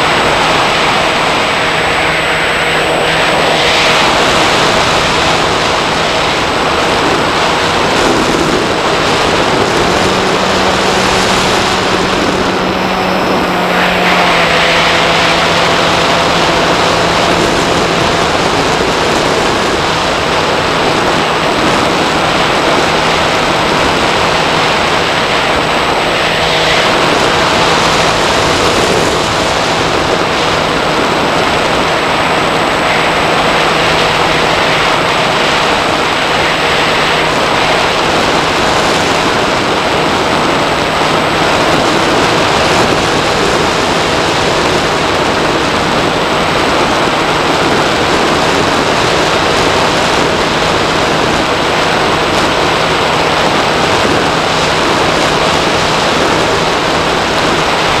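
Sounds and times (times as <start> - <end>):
electric motor and propeller hum: 0.0 - 58.0
rush of airflow: 0.0 - 58.0.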